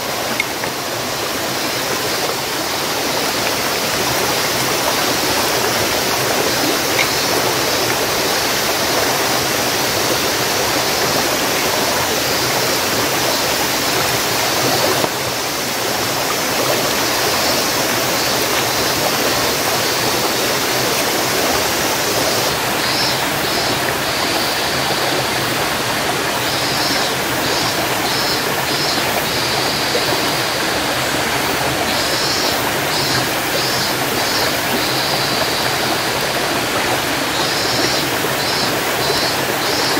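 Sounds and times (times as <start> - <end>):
rocky stream rushing: 0.0 - 39.9.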